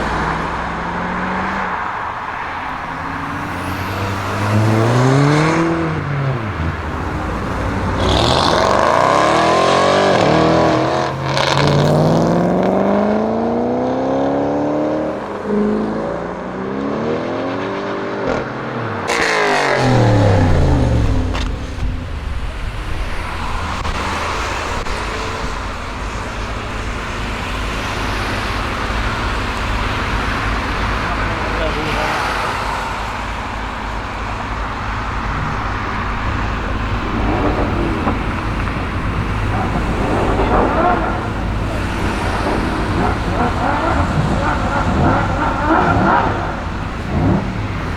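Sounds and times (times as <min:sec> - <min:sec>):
exhaust cracks: 0:00.0 - 0:13.8, 0:18.3 - 0:47.9
car engine accelerating hard: 0:00.0 - 0:47.9
road noise: 0:00.0 - 0:47.9.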